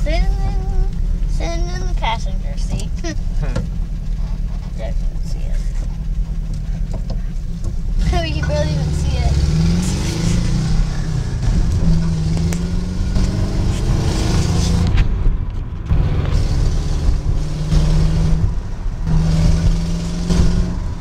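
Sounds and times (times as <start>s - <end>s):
engine drone: 0.0s - 21.0s
road noise: 0.0s - 21.0s.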